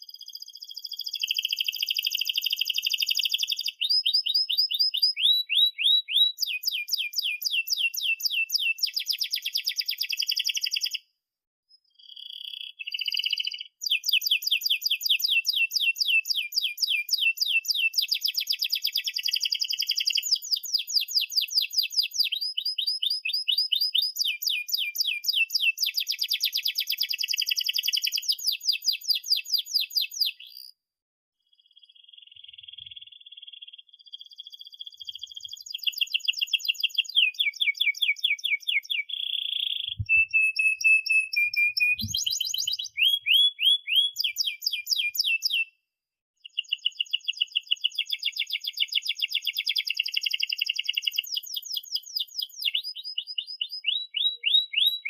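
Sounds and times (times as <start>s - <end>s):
canary singing trills: 0.0s - 11.0s, 11.7s - 30.8s, 31.5s - 45.7s, 46.4s - 55.0s.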